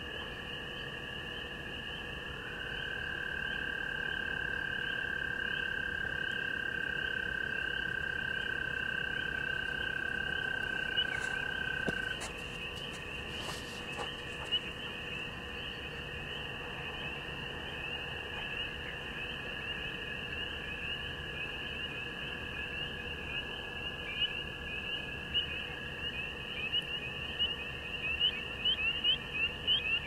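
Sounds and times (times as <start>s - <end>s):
frog chorus: 0.0s - 30.0s.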